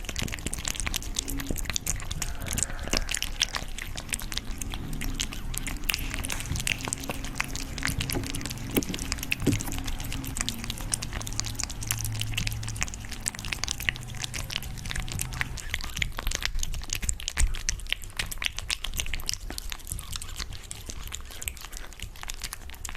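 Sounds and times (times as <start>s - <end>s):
chewing and crunching: 0.0s - 22.9s.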